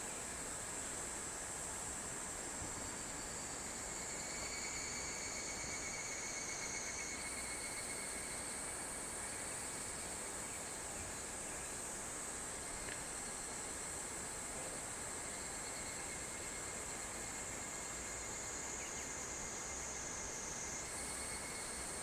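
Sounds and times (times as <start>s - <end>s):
soft outdoor hiss: 0.0s - 22.0s.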